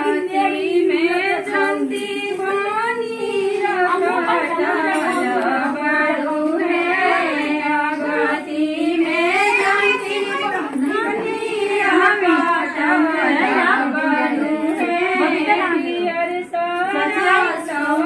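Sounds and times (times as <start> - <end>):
women singing a folk song: 0.0 - 18.0.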